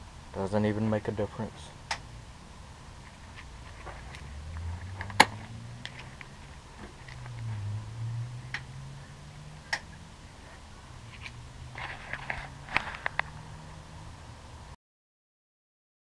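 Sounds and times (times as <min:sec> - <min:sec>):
low steady hum: 0:00.0 - 0:14.8.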